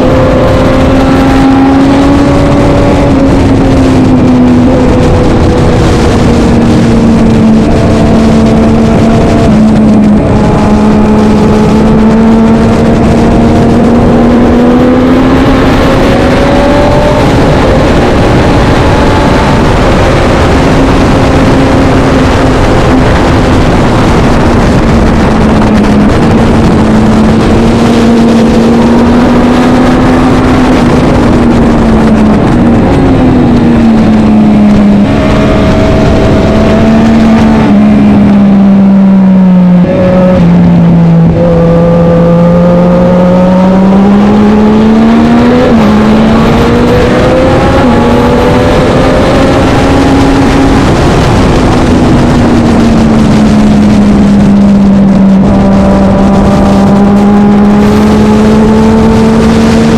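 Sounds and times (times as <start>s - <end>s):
loud rushing noise: 0.0s - 59.9s
racing motorcycle engine revving: 0.0s - 59.9s.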